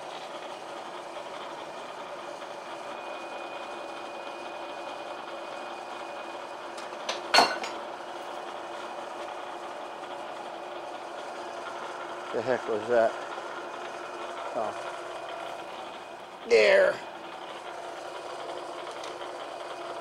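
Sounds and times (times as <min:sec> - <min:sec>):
milling machine spindle whine: 0:00.0 - 0:20.0.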